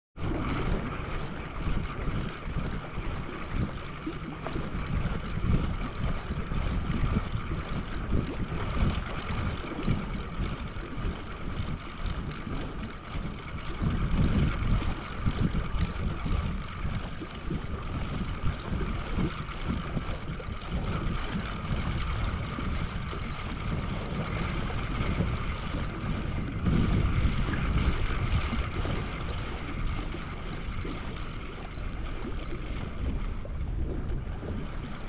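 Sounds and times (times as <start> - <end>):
lake waves against concrete shore: 0.2 - 35.0
wind buffeting microphone: 0.2 - 35.0.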